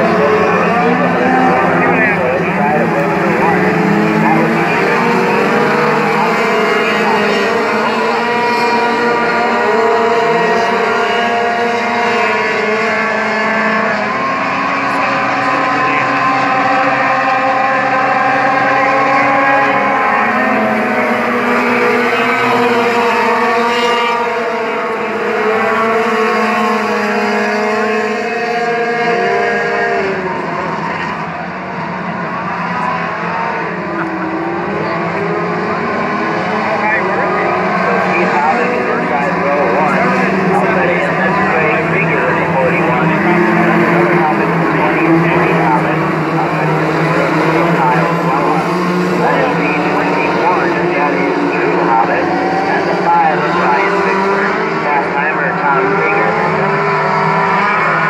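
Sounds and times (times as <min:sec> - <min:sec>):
racing truck engines: 0:00.0 - 0:58.0.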